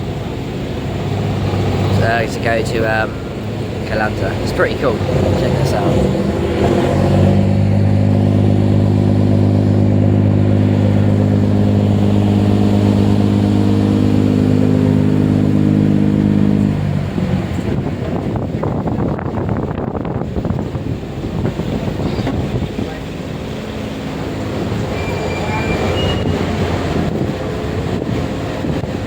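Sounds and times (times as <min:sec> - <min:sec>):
ferry low droning tones: 0:00.0 - 0:29.0
rough engine rumble: 0:00.0 - 0:29.0.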